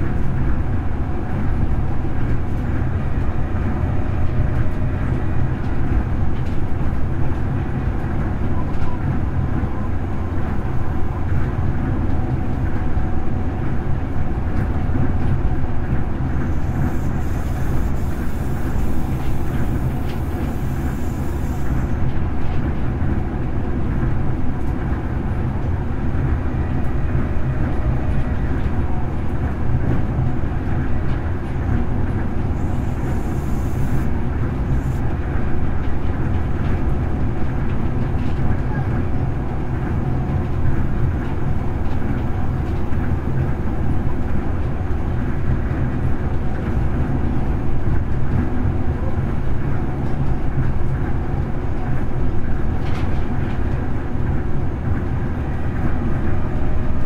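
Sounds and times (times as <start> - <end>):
monorail train low rumble: 0.0 - 57.0.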